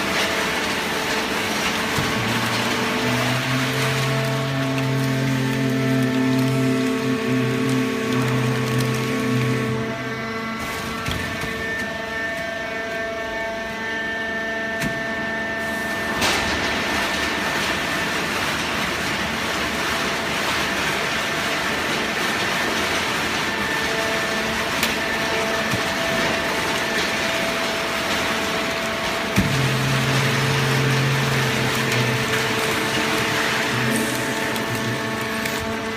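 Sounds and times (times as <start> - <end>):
baling press machine hum: 0.0 - 35.9.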